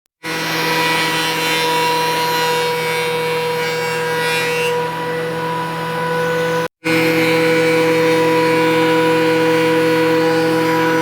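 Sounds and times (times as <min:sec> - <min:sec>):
power tool motor whine: 0:00.2 - 0:11.0.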